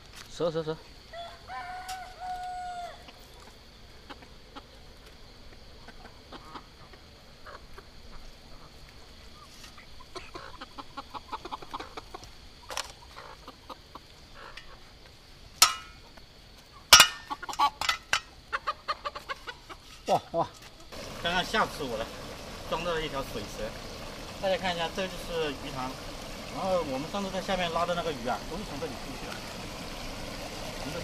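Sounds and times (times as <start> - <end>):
chickens clucking: 1.6 - 31.0.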